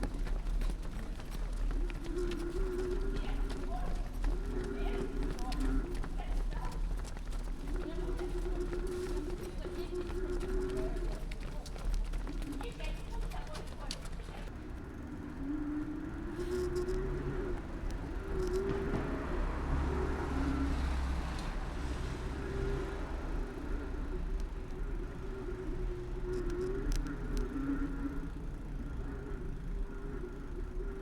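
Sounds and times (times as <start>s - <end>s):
bicycle tyre rumble on road: 0.0s - 31.0s
passing traffic: 0.0s - 31.0s.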